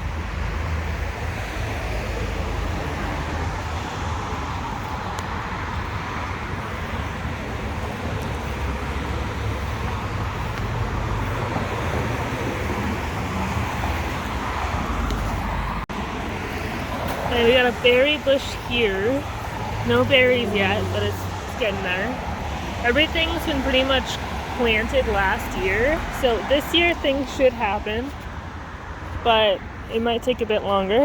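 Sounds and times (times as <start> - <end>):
passing cars: 0.0 - 31.0.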